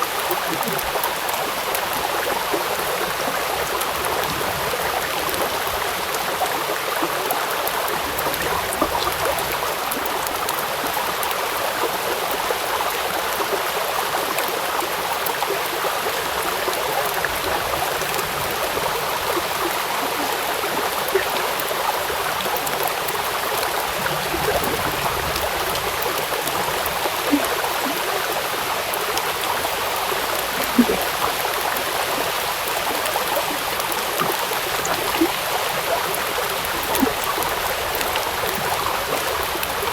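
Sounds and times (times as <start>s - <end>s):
flowing river water: 0.0s - 39.9s
rain on water: 0.0s - 39.9s.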